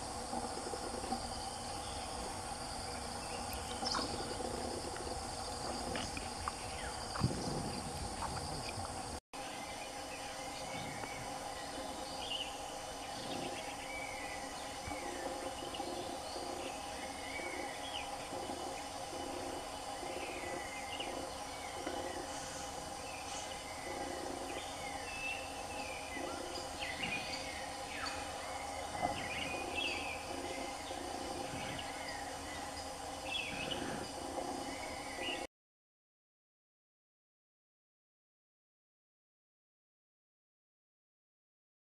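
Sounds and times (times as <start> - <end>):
insects droning: 0.0 - 35.5
small birds chirping: 0.3 - 35.5.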